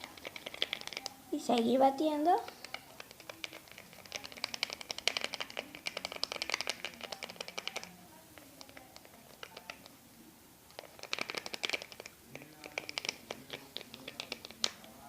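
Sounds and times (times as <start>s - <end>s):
stirrer beating slime mixture: 0.0s - 10.0s, 10.7s - 15.0s.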